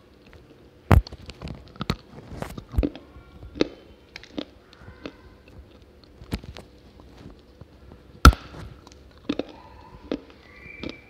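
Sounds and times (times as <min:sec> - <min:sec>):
dry clay crunching when chewed: 0:00.0 - 0:11.0.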